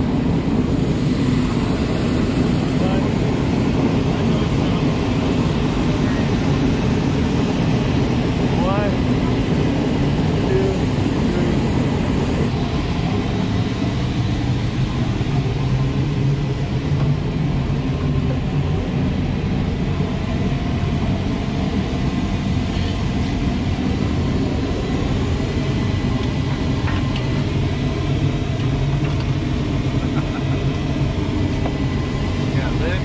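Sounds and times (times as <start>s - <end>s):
machinery low rumble: 0.0s - 33.0s.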